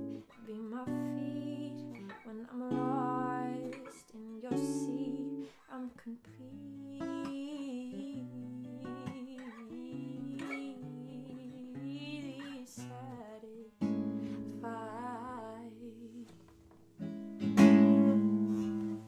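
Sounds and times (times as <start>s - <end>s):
woman singing wordlessly: 0.0s - 16.5s
acoustic guitar picked and strummed: 0.0s - 19.0s.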